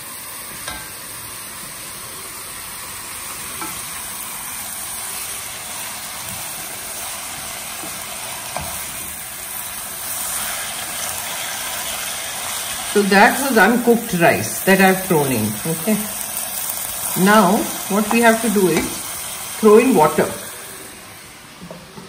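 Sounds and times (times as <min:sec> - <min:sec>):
food sizzling in a pot: 0:00.0 - 0:22.0.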